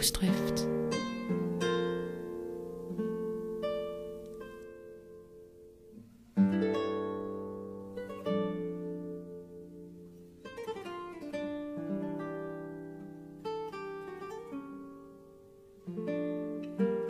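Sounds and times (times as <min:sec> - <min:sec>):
slow plucked-string music: 0:00.0 - 0:17.0.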